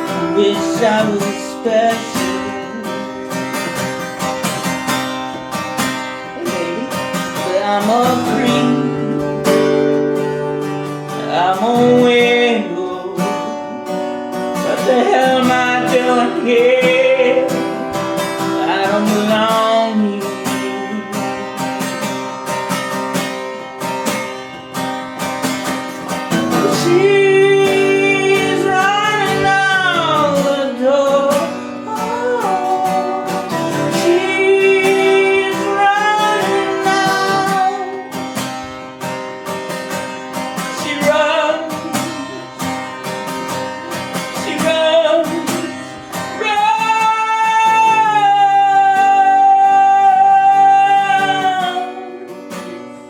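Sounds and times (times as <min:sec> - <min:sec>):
person singing wordless notes: 0:00.0 - 0:04.6, 0:06.3 - 0:21.7, 0:26.3 - 0:38.3, 0:40.6 - 0:53.0
strummed acoustic guitar: 0:00.0 - 0:53.0.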